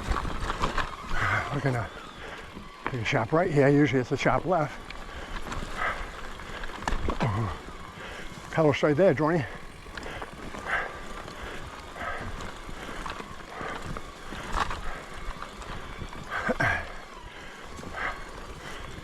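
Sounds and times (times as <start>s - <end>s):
bike rattling over rocks: 0.0s - 19.0s
bike tyres crunching: 0.0s - 19.0s.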